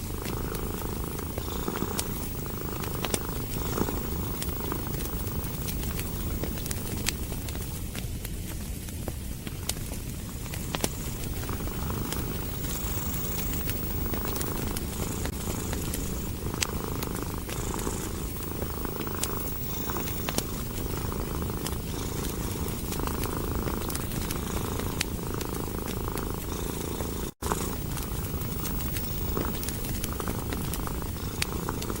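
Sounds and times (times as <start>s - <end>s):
cat purring: 0.0s - 8.0s, 9.4s - 32.0s
wood fire crackling: 0.0s - 32.0s.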